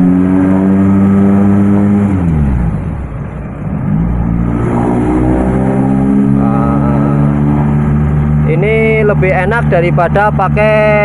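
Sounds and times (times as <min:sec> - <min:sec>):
diesel engine accelerating: 0:00.0 - 0:11.0.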